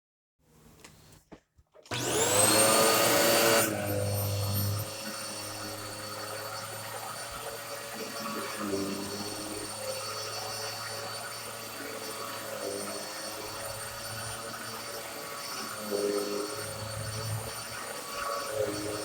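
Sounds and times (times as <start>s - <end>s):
vacuum cleaner running on a rug: 1.9s - 19.0s.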